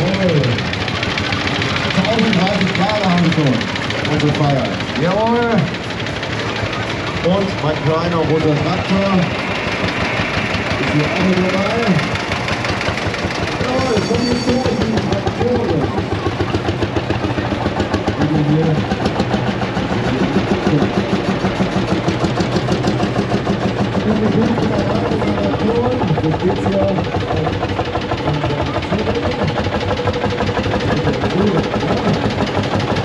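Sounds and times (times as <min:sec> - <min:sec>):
crowd voices: 0:00.0 - 0:33.0
tractor engines running: 0:00.0 - 0:33.0.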